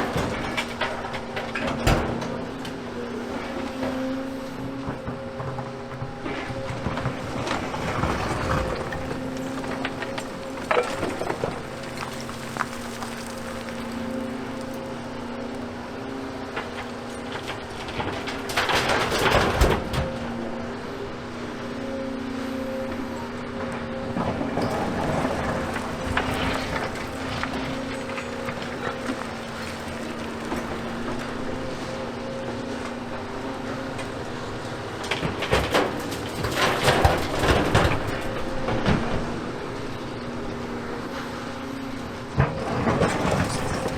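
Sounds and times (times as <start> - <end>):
demolition rubble crashing: 0.0 - 20.9, 23.5 - 43.9
excavator diesel engine running: 2.4 - 43.9.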